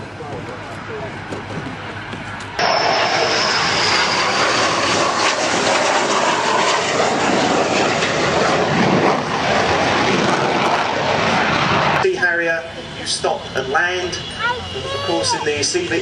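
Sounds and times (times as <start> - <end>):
jet aircraft roaring past: 0.0 - 16.0
high jet whine falling in pitch: 0.9 - 16.0.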